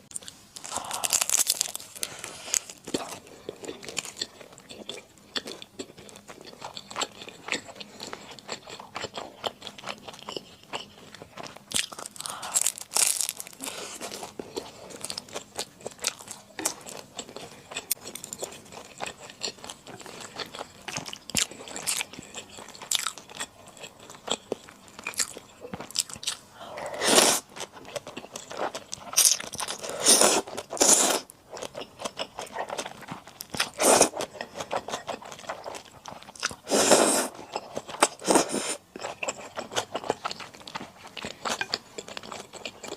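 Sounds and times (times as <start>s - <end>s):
noisy eating: 0.0s - 42.9s.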